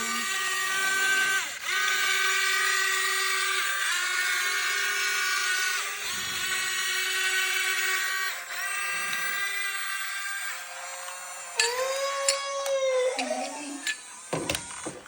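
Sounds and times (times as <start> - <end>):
toy electric gear motors whining: 0.0 - 15.0.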